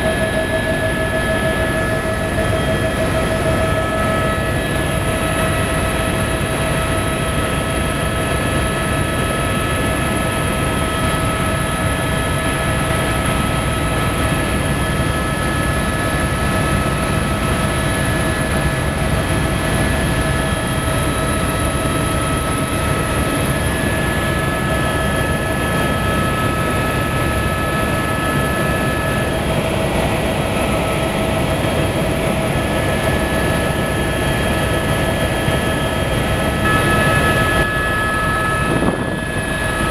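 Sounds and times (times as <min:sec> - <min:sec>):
helicopter engine and rotor drone: 0:00.0 - 0:39.9
steady whining tones: 0:00.0 - 0:39.9.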